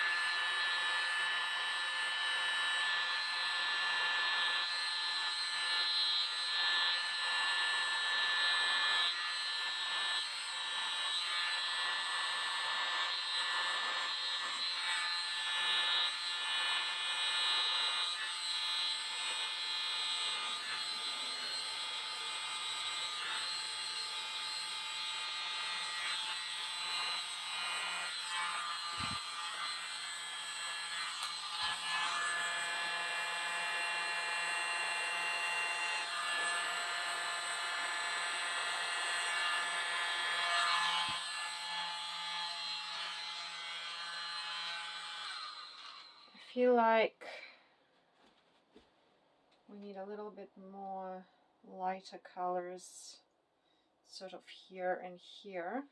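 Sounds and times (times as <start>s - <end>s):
small electric blower whirring: 0.0s - 46.7s.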